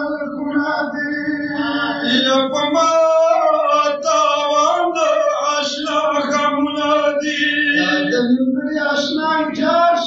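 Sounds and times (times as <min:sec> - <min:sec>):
person chanting a lament: 0:00.0 - 0:10.0.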